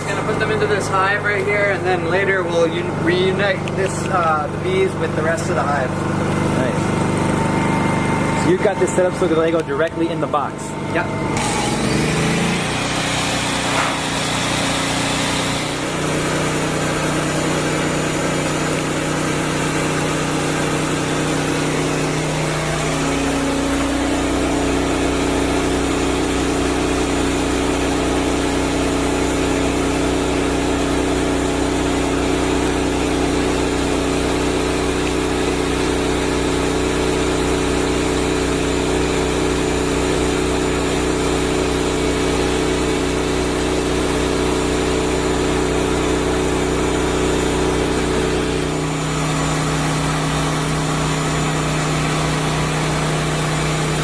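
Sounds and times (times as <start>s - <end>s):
vacuum motor running: 0.0s - 54.0s.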